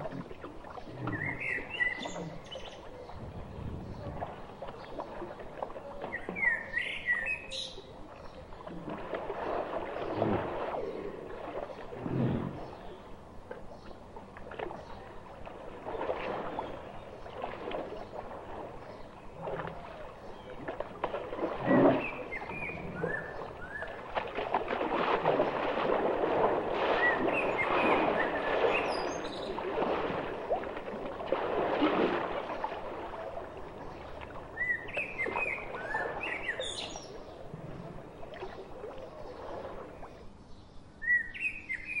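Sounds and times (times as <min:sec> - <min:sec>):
birds chirping: 0:00.0 - 0:24.2, 0:26.9 - 0:30.6, 0:32.4 - 0:42.0.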